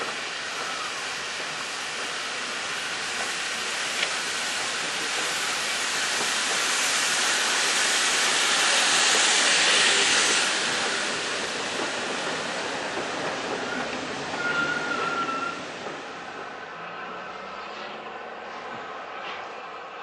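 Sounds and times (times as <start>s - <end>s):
steam train passing: 0.0s - 20.0s.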